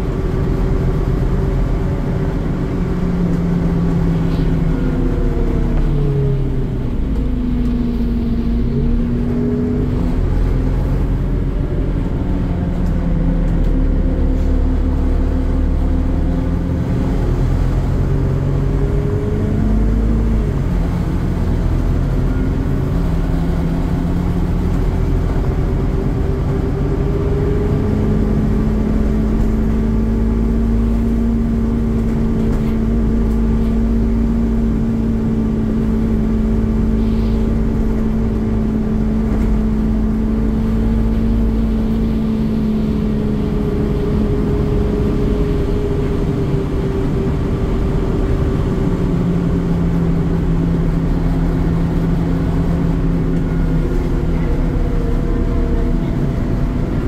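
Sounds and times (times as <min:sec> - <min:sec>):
bus engine drone from inside: 0:00.0 - 0:57.0.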